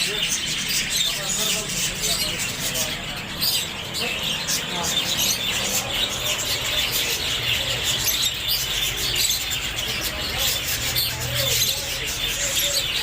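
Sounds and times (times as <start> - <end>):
parrots chattering: 0.0 - 13.0.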